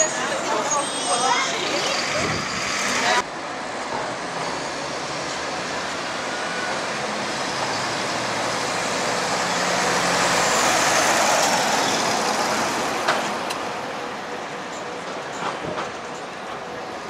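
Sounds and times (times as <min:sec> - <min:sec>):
bus driving past: 0:00.0 - 0:14.3.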